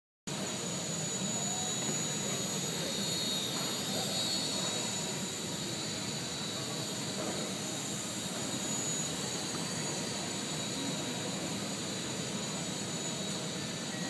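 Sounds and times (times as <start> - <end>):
electric motor and propeller whining: 0.3 - 14.0.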